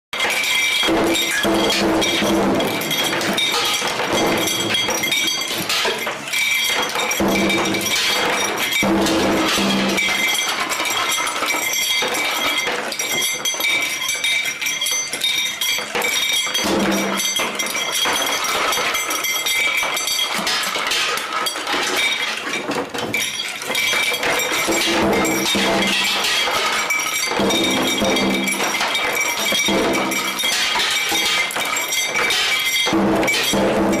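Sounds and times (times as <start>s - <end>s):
glassy clinks and crashes: 0.2s - 34.0s.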